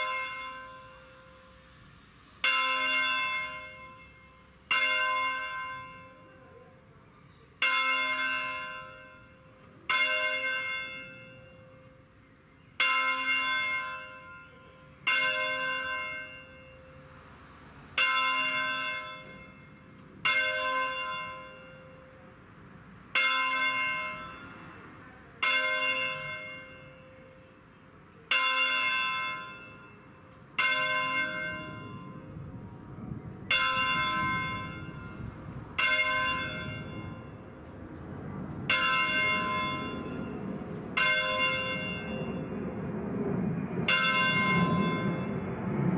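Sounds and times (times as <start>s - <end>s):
church bell ringing: 0.0s - 1.6s, 2.4s - 17.1s, 17.9s - 22.4s, 23.1s - 37.7s, 38.3s - 42.8s, 43.7s - 45.6s.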